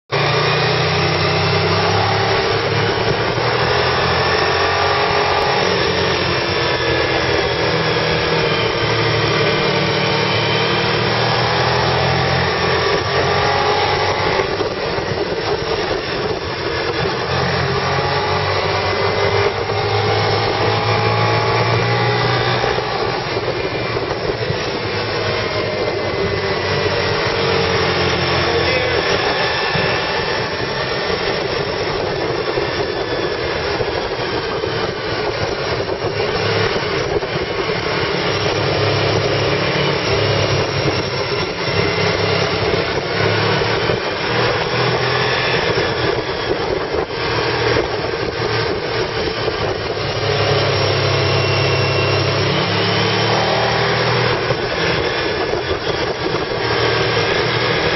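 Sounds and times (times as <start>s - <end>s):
vehicle engine running: 0.1s - 57.9s
wind and road noise: 0.1s - 57.9s.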